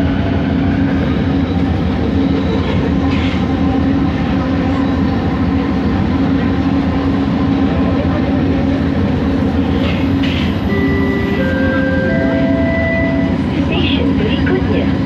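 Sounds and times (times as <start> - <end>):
train motor hum: 0.0 - 15.0.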